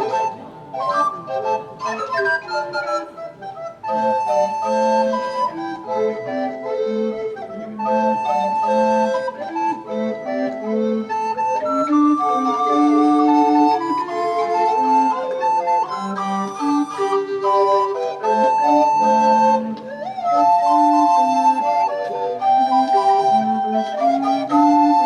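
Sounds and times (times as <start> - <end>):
flutes playing melody: 0.0 - 25.0
sustained chordal accompaniment: 0.0 - 25.0.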